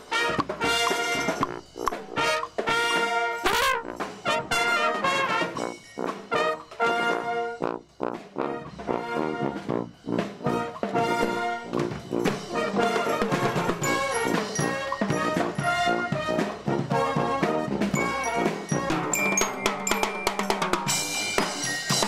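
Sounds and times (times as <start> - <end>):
trumpets: 0.0 - 21.7
marching brass band playing: 0.0 - 22.0.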